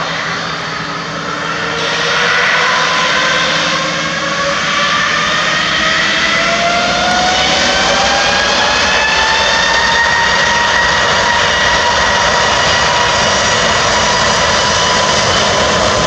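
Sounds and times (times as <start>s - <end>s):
jet engine takeoff roar: 0.0s - 16.0s.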